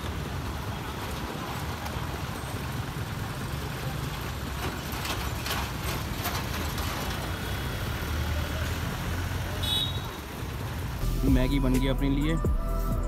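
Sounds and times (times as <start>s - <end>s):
motorcycles and cars passing: 0.0s - 11.0s
street noise: 0.0s - 13.0s.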